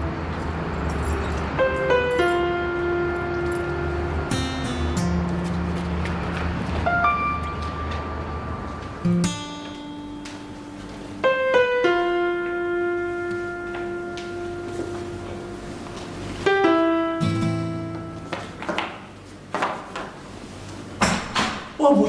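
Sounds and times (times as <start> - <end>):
slow sparse piano music: 0.0 - 21.0.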